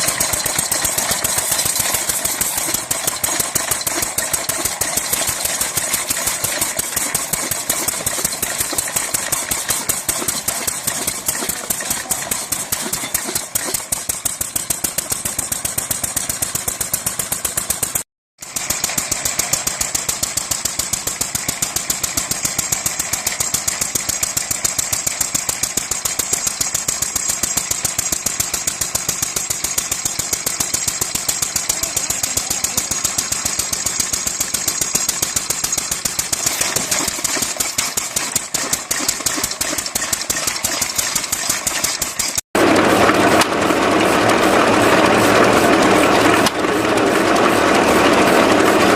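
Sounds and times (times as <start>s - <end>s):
chainsaw engine running: 0.0s - 48.9s.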